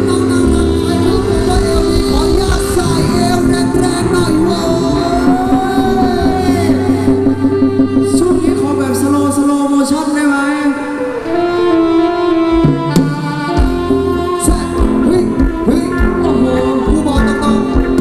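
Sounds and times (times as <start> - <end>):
bass and drums beat: 0.0 - 9.5, 12.6 - 18.0
keyboard melody: 0.0 - 18.0
person singing: 0.0 - 18.0.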